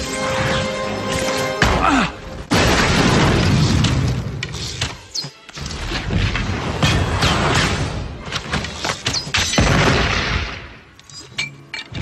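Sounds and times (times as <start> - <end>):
orchestral film music: 0.0 - 12.0.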